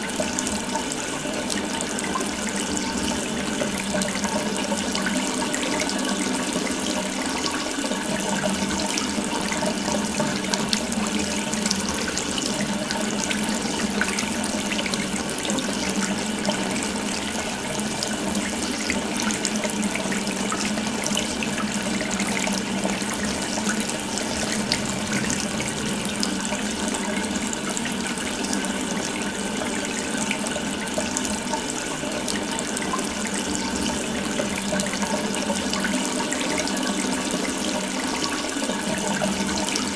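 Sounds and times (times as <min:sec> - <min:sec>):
water running from a faucet: 0:00.0 - 0:39.9.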